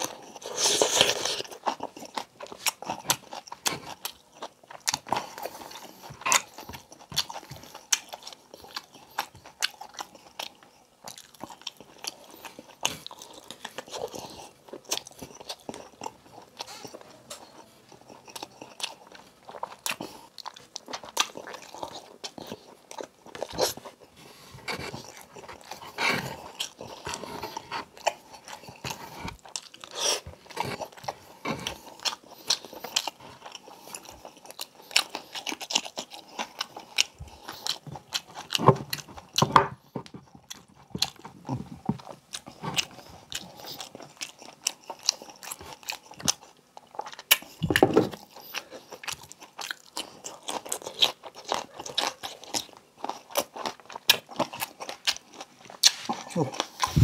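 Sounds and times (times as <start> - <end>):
man chewing and smacking: 0.0 - 57.0.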